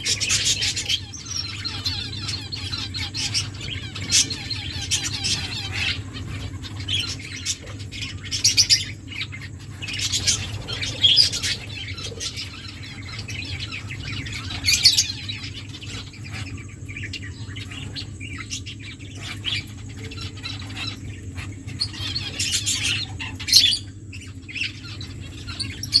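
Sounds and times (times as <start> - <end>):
finches chirping: 0.0 - 26.0
steady low hum: 0.0 - 26.0.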